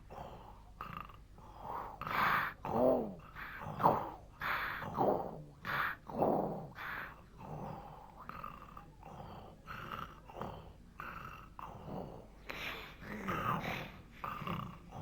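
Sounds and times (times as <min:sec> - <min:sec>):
cartoon snoring: 0:00.1 - 0:12.3, 0:13.0 - 0:15.0.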